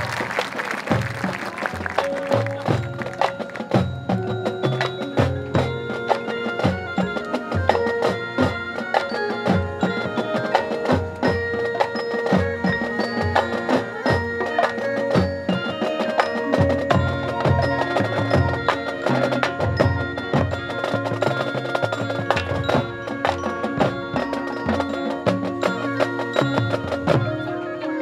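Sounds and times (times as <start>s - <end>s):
mallet percussion: 0.0s - 28.0s
woodwinds holding notes: 0.0s - 28.0s.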